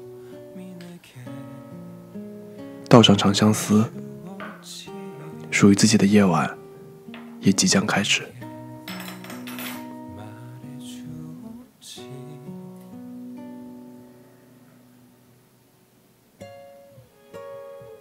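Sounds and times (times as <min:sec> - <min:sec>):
slow acoustic guitar notes: 0:00.0 - 0:15.8, 0:16.4 - 0:18.0.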